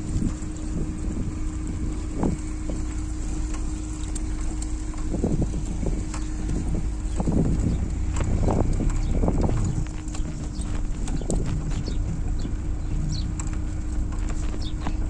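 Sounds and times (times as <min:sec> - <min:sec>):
carriage wheels rumbling: 0:00.0 - 0:15.0
hoof clops: 0:00.0 - 0:15.0
wind on microphone: 0:00.0 - 0:15.0.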